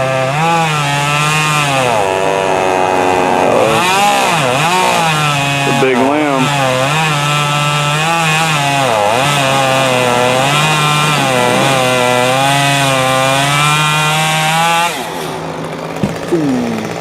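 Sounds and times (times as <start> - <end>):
chainsaw cutting wood: 0.0 - 17.0
chainsaw idling: 0.0 - 17.0.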